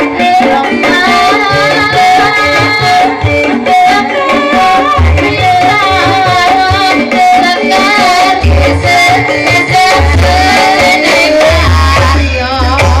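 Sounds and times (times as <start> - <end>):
gamelan-style ensemble: 0.0 - 13.0.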